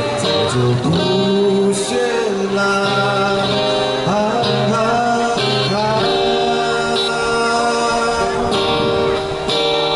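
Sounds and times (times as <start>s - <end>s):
man singing: 0.0s - 8.9s
strummed guitar: 0.0s - 9.9s.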